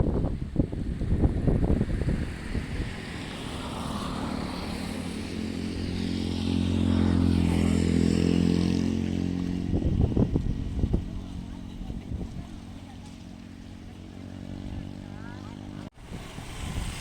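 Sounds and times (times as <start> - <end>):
motor engine approaching: 0.0 - 15.9.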